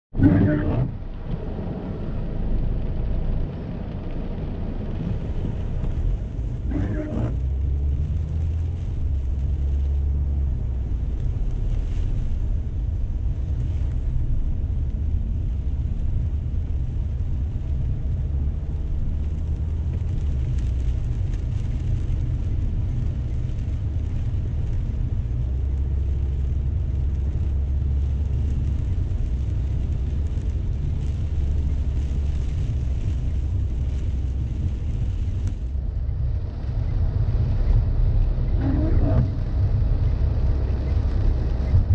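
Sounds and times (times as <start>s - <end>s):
car cabin engine and tyre rumble: 0.1s - 41.9s.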